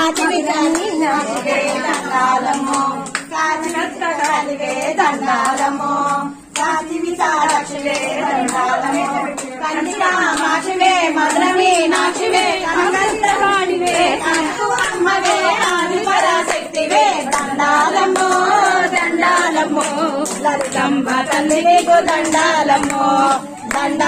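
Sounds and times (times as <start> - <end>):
hands clapping rhythmically: 0.0 - 24.0
women singing: 0.0 - 24.0.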